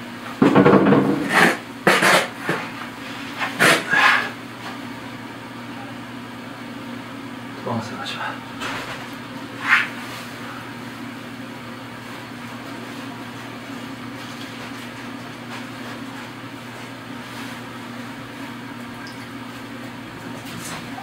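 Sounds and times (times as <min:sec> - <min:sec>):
steady low hum: 0:00.6 - 0:21.0.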